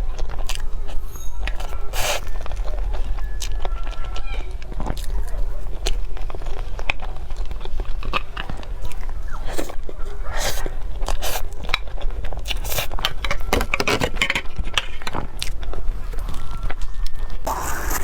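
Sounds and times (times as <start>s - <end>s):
person chewing cake: 0.0s - 18.0s.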